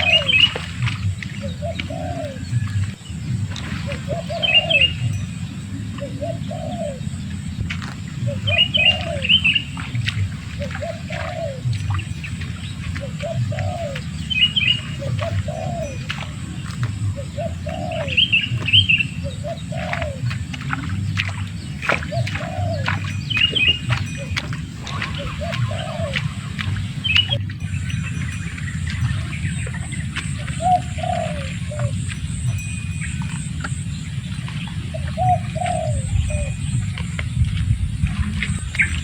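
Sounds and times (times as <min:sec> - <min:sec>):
dove cooing: 0:00.0 - 0:39.0
low hum: 0:00.0 - 0:39.0.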